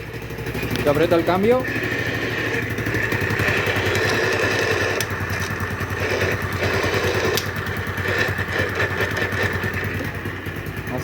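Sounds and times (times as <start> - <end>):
motorcycle engine idling: 0.0 - 11.0
steady whine: 0.5 - 11.0.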